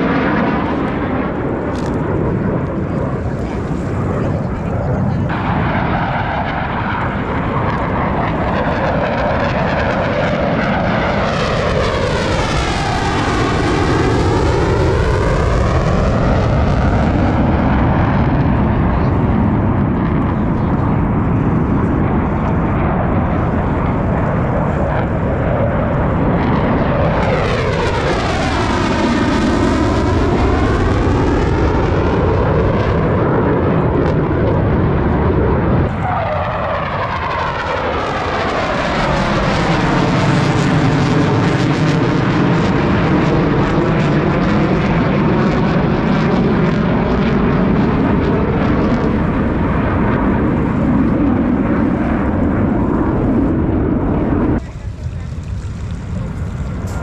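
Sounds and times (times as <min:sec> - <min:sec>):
jets flying past: 0:00.0 - 0:57.0.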